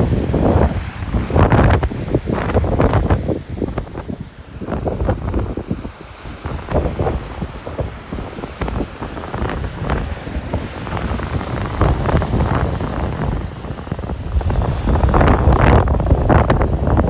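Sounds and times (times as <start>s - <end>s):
small waves breaking on sand: 0.0s - 17.0s
wind buffeting microphone: 0.0s - 17.0s.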